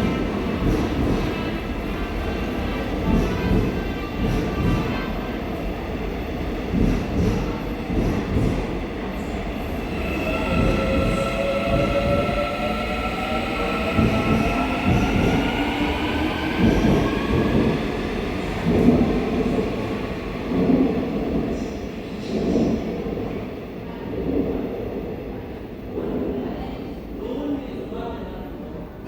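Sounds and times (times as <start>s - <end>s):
train wheel and rail rumble: 0.0s - 29.0s.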